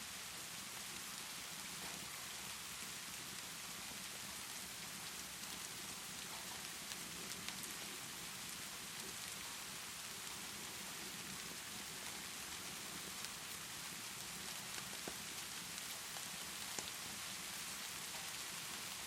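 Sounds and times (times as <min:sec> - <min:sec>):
steady rainfall: 0:00.0 - 0:19.0
wood fire crackling: 0:02.7 - 0:19.0.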